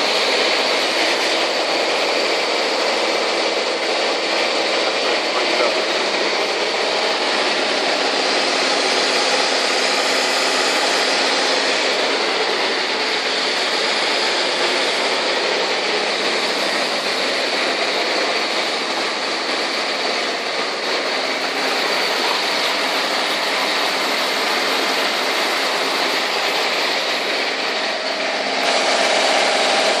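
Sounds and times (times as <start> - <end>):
pump droning: 0.0 - 30.0.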